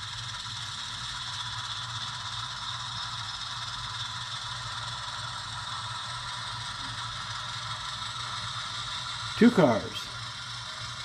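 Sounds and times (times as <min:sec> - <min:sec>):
model locomotive engine hum: 0:00.0 - 0:11.0.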